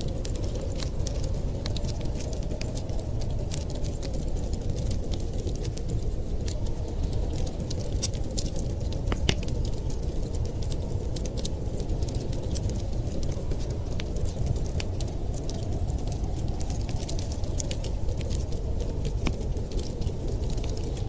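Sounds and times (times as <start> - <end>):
low rumble of blizzard wind: 0.0 - 21.0
wood fire crackling and popping: 0.0 - 21.0.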